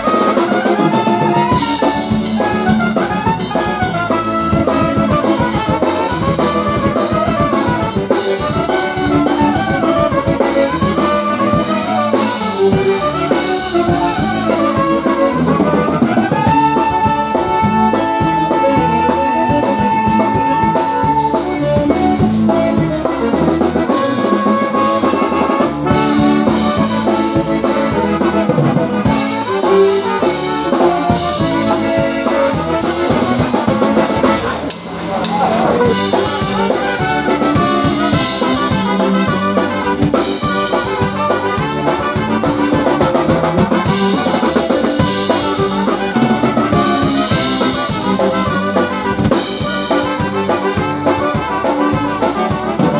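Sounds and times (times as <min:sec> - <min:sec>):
concertina melody: 0:00.0 - 0:52.9
drum kit dance beat: 0:00.0 - 0:52.9
polka band playing: 0:00.0 - 0:52.9.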